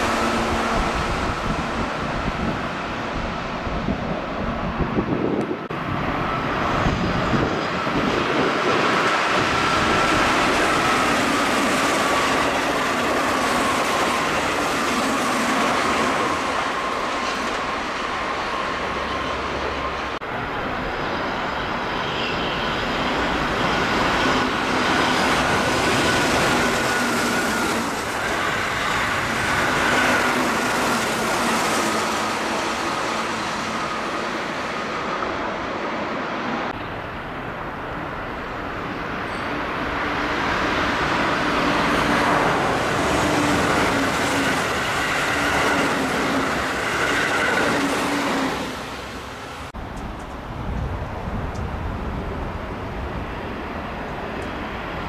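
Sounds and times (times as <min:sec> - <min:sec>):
electric train passing at speed: 0:00.0 - 0:55.0
train whine: 0:00.0 - 0:55.0.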